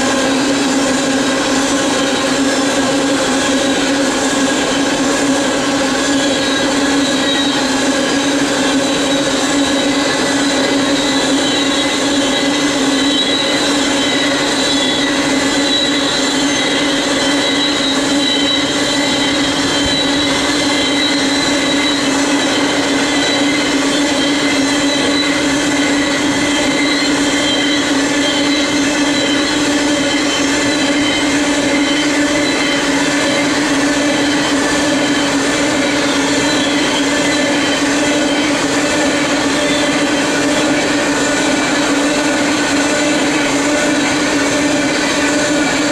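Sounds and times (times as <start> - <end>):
train wheels rolling on rails: 0.0 - 45.9
wheels squealing: 0.0 - 45.9.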